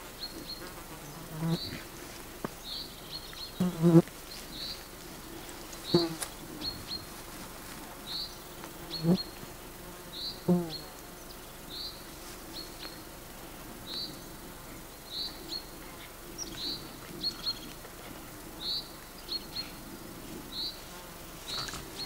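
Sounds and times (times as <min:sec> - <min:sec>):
flying insects buzzing: 0:00.0 - 0:22.0.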